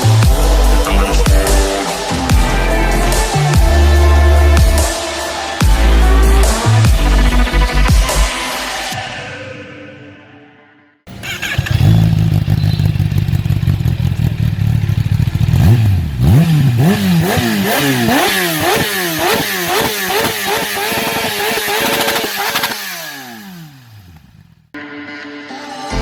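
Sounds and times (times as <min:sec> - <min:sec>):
motorcycle engine idling and revving: 0:00.0 - 0:08.3, 0:11.1 - 0:24.8.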